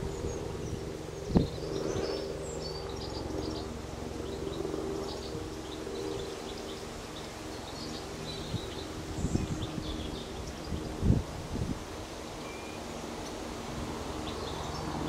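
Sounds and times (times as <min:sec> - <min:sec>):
birds chirping: 0:00.0 - 0:11.3, 0:12.3 - 0:15.0
steady low drone: 0:00.0 - 0:15.0.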